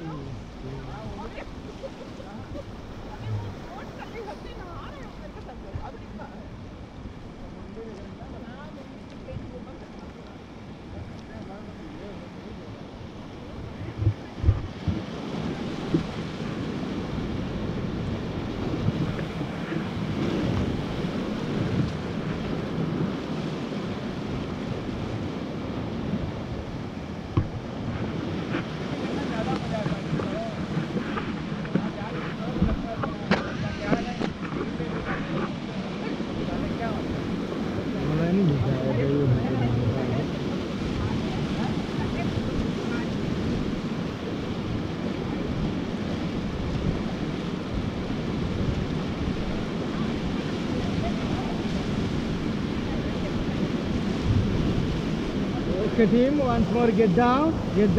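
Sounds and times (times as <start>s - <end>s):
whitewater river rushing: 0.0s - 57.9s
wind buffeting microphone: 0.0s - 57.9s.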